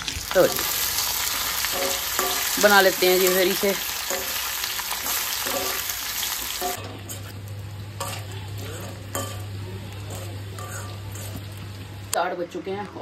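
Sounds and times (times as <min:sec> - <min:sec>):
food sizzling in hot oil: 0:00.0 - 0:12.2.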